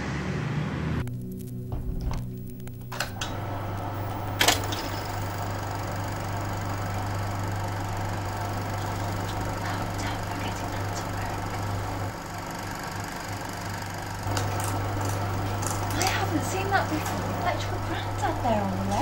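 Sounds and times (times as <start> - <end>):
film-advance mechanism rattle: 1.7 - 19.0
film projector motor hum: 1.8 - 19.0.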